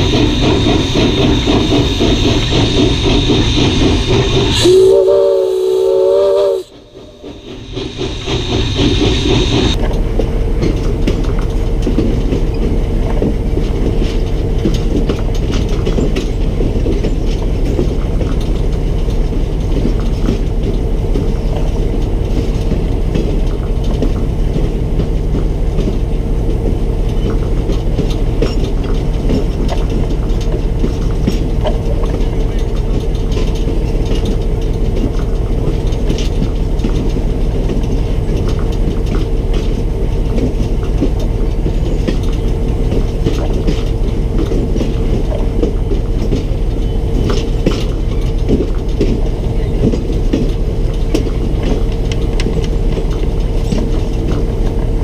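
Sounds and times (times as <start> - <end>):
train rumbling on track: 0.0 - 55.0
wheels clicking and clanking: 7.5 - 55.0.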